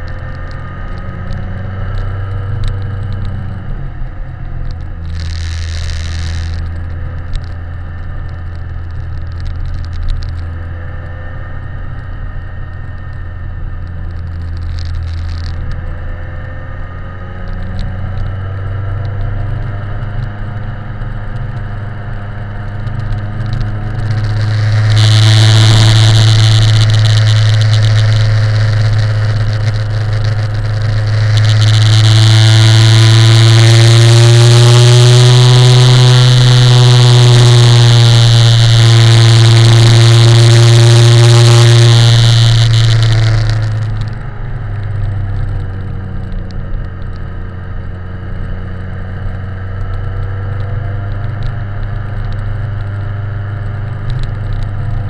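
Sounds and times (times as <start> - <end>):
motorcycle engine hum: 0.0 - 55.0.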